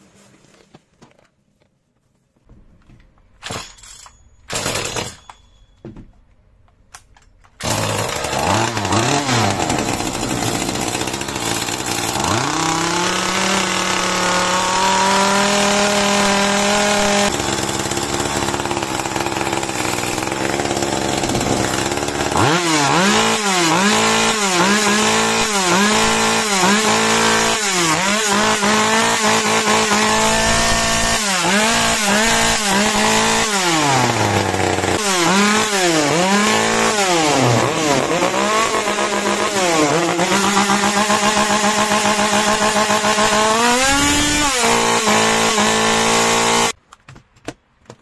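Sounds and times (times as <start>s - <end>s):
chainsaw engine revving: 7.6s - 46.8s.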